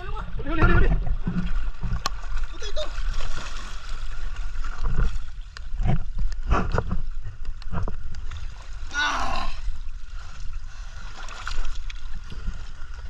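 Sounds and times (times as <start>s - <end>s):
water splashing: 0.0s - 13.0s.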